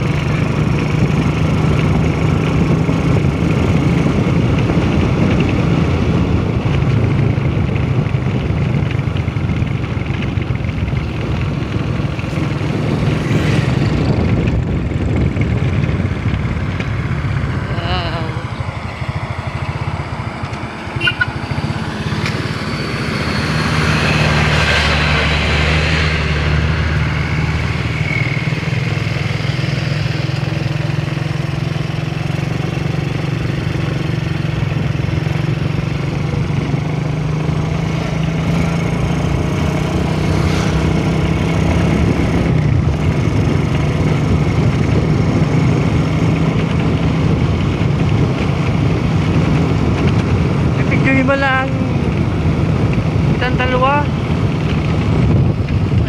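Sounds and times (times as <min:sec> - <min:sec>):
small motorcycle engine running: 0:00.0 - 0:56.0.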